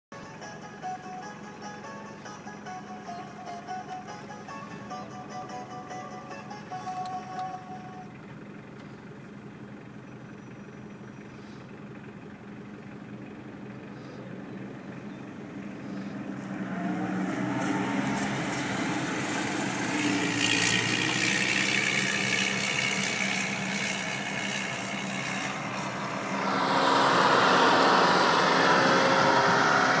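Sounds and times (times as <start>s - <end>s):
combine harvester running: 0.2s - 30.0s.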